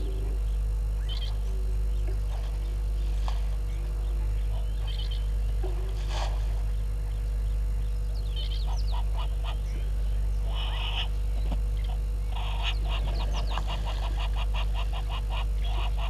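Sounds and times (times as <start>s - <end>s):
birds calling: 0.0s - 16.0s
steady low hum: 0.0s - 16.0s.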